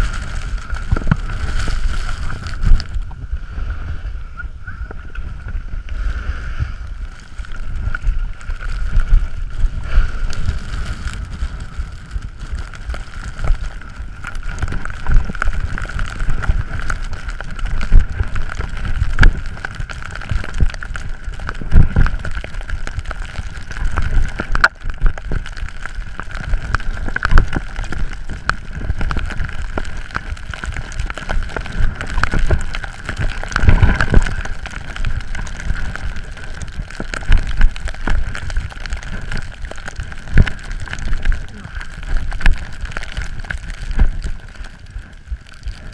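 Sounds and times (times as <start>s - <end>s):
skis scraping over snow: 0.0s - 45.9s
wind buffeting microphone: 0.0s - 45.9s.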